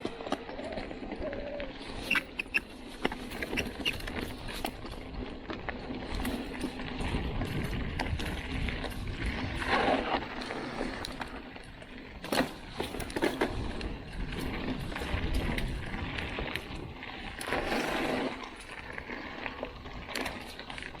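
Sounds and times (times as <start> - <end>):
bike clicks and rattles: 0.0 - 21.0
bike tyre noise on dirt: 0.0 - 21.0.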